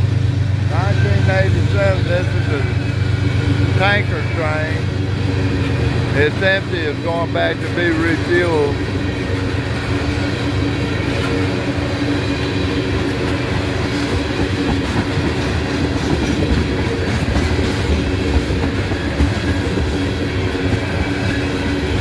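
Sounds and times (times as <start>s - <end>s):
steel wheels rumbling on rails: 0.0s - 22.0s.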